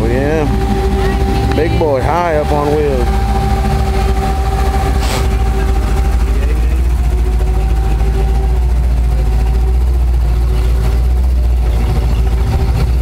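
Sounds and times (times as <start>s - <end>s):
faint steady whine: 0.0s - 13.0s
truck engine rumbling: 0.0s - 13.0s.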